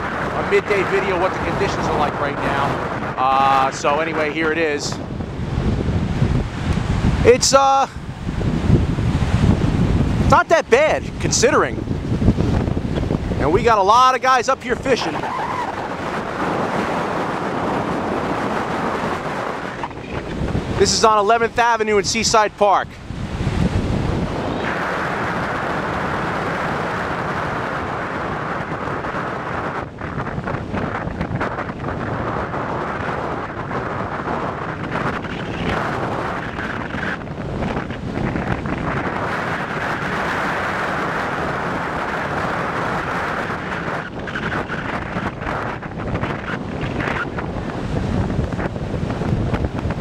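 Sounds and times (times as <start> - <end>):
heavy surf breaking: 0.0 - 50.0
wind buffeting microphone: 0.0 - 50.0.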